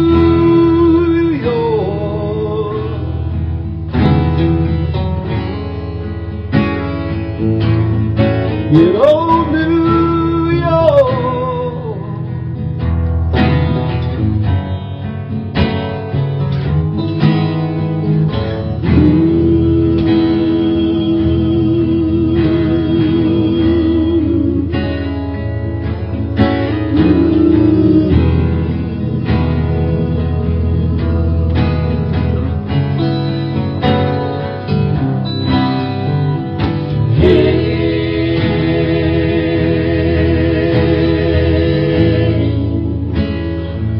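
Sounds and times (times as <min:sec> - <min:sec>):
acoustic guitars strummed and picked: 0:00.0 - 0:43.9.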